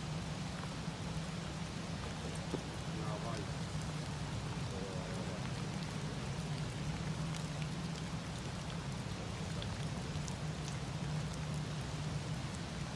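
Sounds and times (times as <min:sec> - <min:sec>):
constant low hum: 0:00.0 - 0:12.9
steady rain falling: 0:00.0 - 0:12.9.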